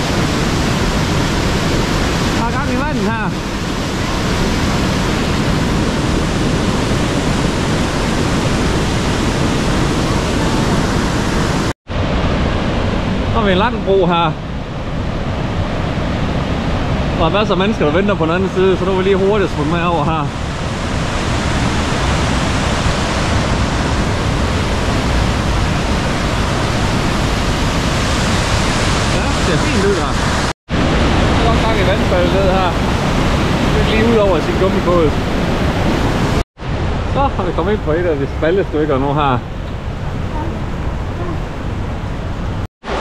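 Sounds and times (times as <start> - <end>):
river water rushing: 0.0 - 13.8, 14.5 - 37.2, 39.0 - 43.0.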